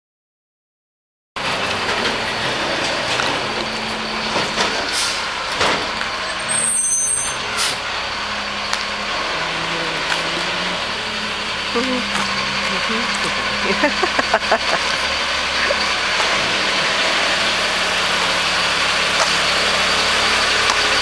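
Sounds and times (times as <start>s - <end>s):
garbage truck engine humming: 1.4s - 21.0s.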